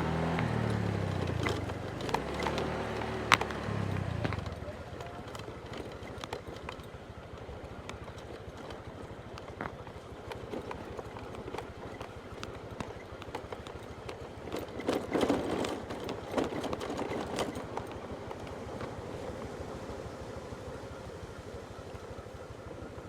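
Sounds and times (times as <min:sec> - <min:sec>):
motorbike engine rumbling: 0:00.0 - 0:23.0.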